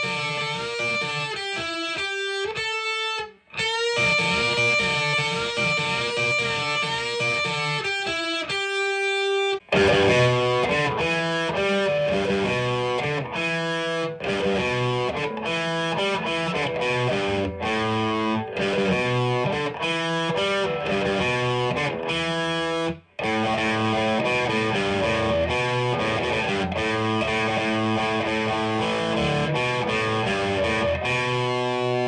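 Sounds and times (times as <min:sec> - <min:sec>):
distorted electric guitar chords: 0:00.0 - 0:32.0.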